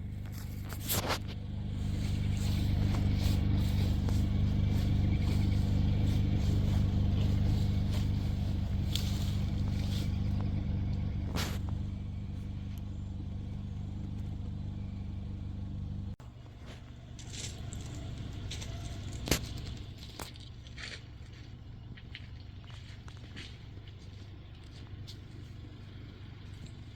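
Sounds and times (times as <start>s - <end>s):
engine idling: 0.0s - 26.9s.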